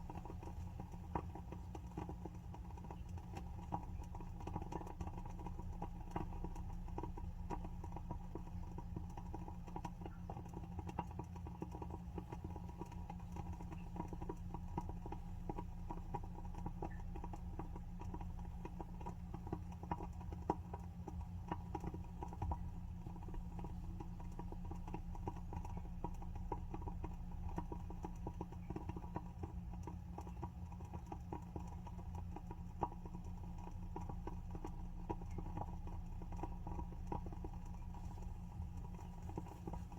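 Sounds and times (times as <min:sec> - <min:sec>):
candle wick crackling: 0:00.0 - 0:39.9
steady low hum: 0:00.0 - 0:39.9.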